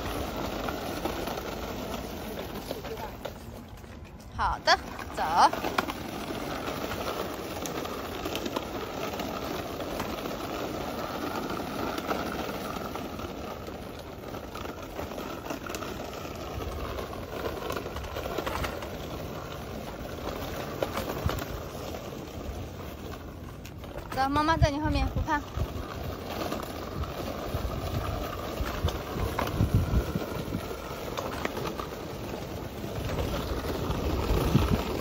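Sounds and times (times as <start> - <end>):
small wheels rattling on pavement: 0.0 - 35.0.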